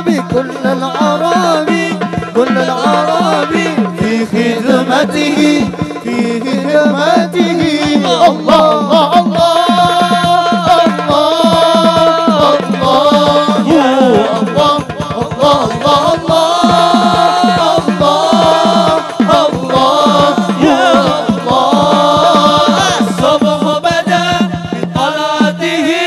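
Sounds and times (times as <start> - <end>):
fast percussion beats: 0.0 - 26.0
group of men singing: 0.0 - 26.0.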